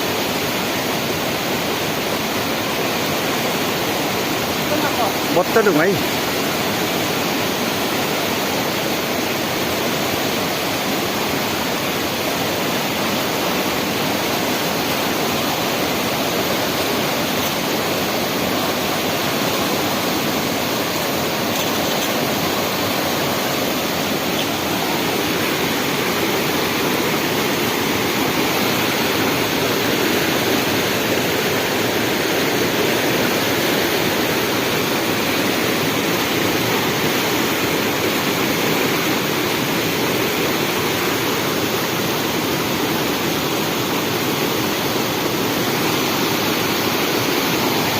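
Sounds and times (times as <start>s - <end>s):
rushing river water: 0.0s - 47.9s.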